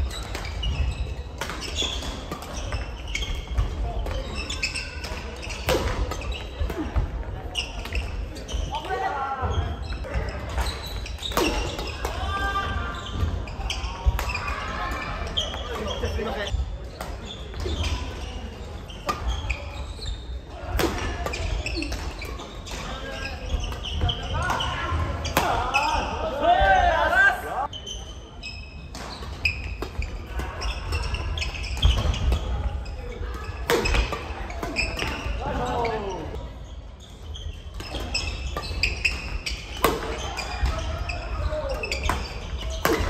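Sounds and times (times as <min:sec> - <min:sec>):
shoes squeaking on wooden floor: 0:00.0 - 0:16.5, 0:21.3 - 0:26.8, 0:27.6 - 0:43.0.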